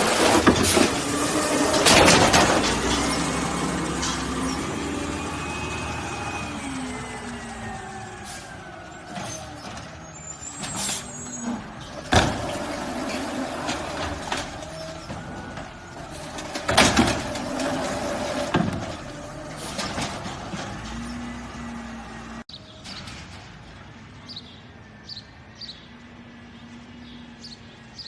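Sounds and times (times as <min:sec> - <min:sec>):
garbage truck running: 0:00.0 - 0:24.2.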